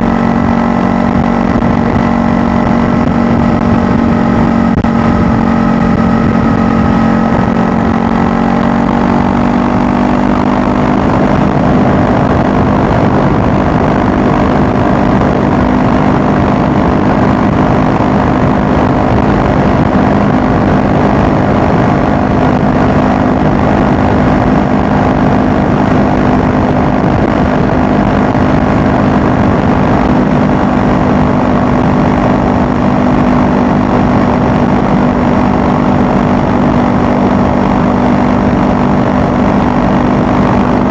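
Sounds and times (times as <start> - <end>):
motorcycle engine at speed: 0.0 - 40.9
rushing wind noise: 0.0 - 40.9.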